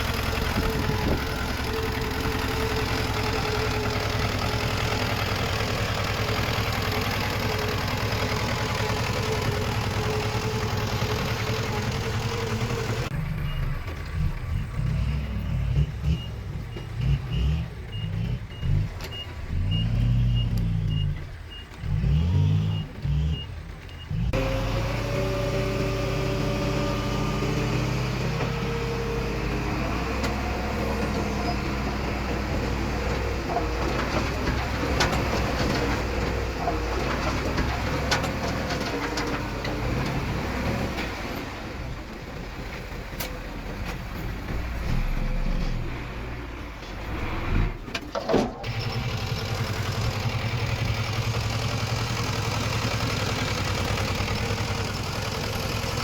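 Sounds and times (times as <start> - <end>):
heavy diesel engines revving: 0.0 - 56.0.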